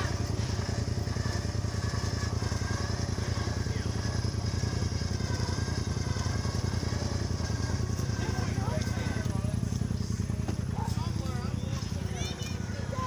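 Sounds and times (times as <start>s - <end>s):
small vehicle engine idling: 0.0s - 13.0s.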